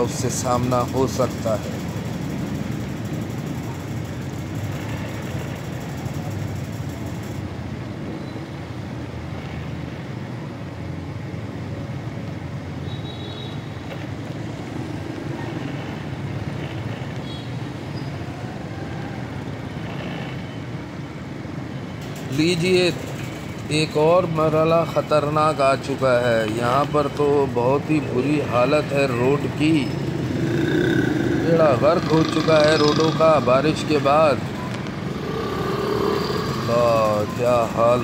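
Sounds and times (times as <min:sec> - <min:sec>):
motorcycle engine and road noise: 0:00.0 - 0:38.0
other motorcycles and cars: 0:00.0 - 0:38.0.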